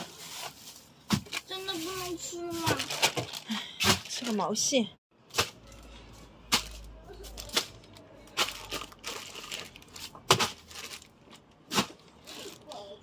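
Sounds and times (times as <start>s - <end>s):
plastic rustling and crinkling: 0.0s - 4.8s, 6.5s - 13.0s.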